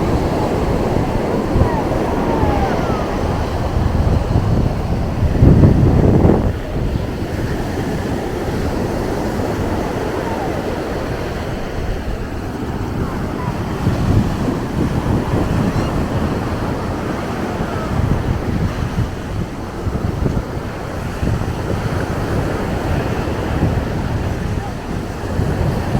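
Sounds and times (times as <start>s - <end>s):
ocean surf washing on beach: 0.0s - 25.9s
wind buffeting microphone: 0.0s - 25.9s.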